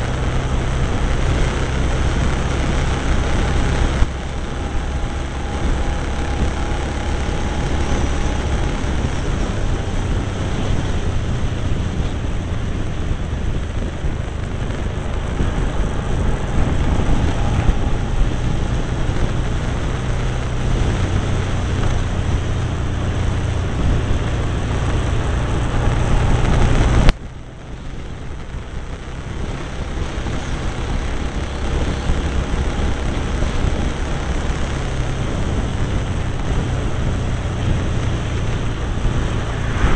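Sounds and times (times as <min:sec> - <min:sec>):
motorcycle engine running: 0:00.0 - 0:39.9
rush of travel wind: 0:00.0 - 0:39.9.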